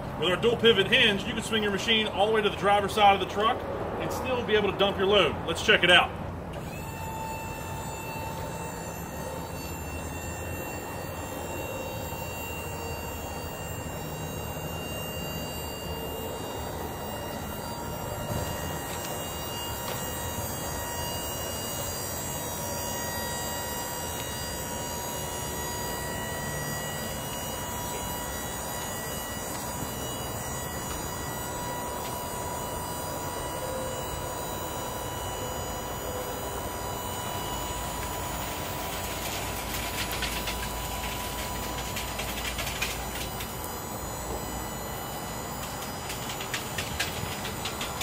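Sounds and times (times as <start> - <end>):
hydraulic hoist humming: 0.0 - 48.0.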